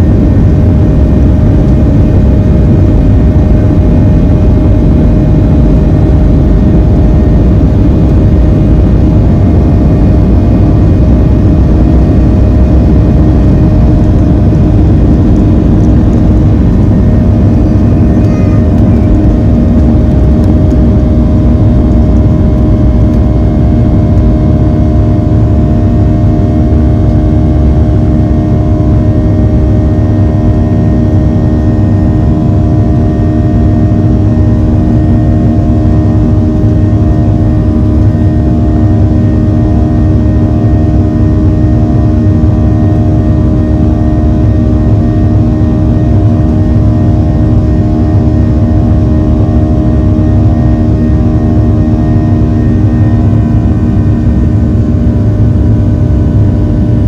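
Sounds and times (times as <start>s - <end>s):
jet engines heard from cabin: 0.0s - 57.0s.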